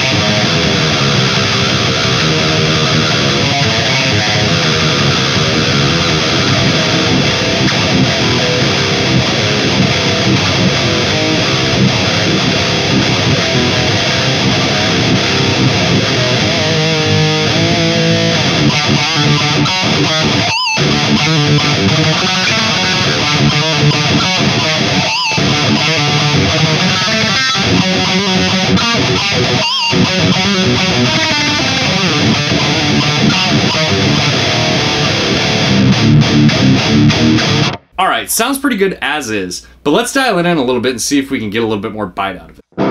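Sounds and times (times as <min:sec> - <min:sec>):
distorted electric guitar riff: 0:00.0 - 0:40.0, 0:42.5 - 0:42.9.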